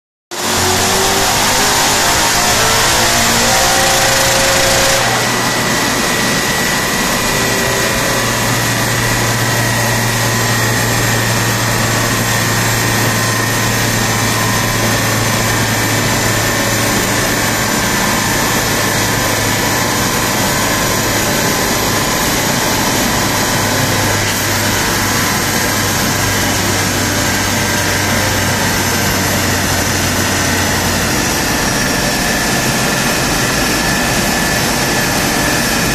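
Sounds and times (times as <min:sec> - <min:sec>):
car engine running: 0:00.3 - 0:35.9
tyres turning on dyno rollers: 0:00.4 - 0:35.9.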